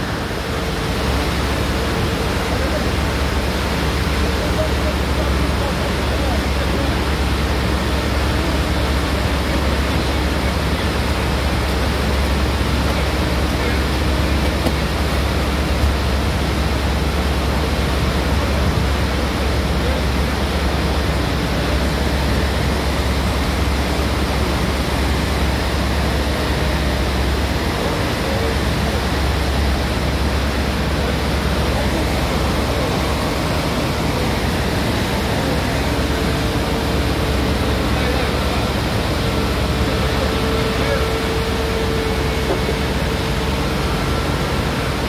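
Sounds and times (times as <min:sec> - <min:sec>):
stream rushing through channel: 0:00.0 - 0:45.0.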